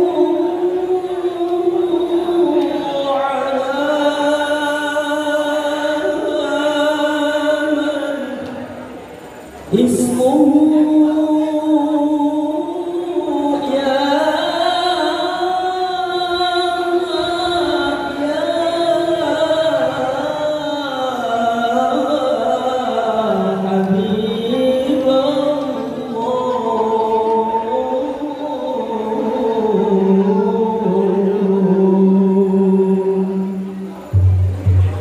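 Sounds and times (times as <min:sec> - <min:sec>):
person singing unaccompanied: 0:00.0 - 0:08.7, 0:09.7 - 0:35.0.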